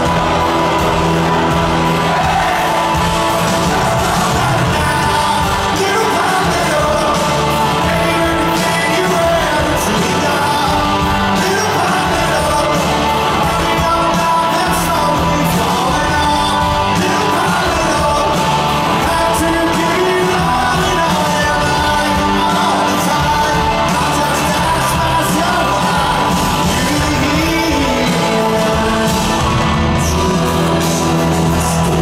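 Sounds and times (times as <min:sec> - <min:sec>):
drums: 0:00.0 - 0:32.0
electric guitar: 0:00.0 - 0:32.0
man singing lead: 0:02.0 - 0:32.0.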